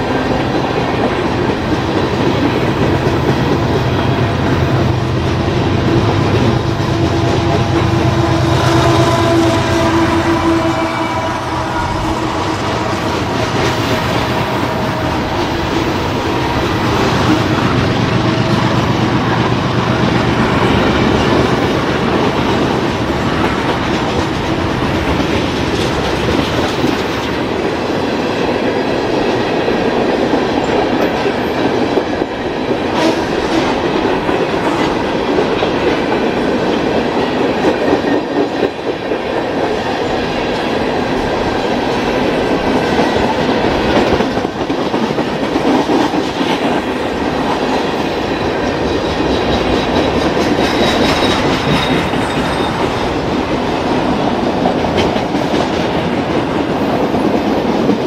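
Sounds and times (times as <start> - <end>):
freight train rumbling and rattling: 0.0 - 58.0.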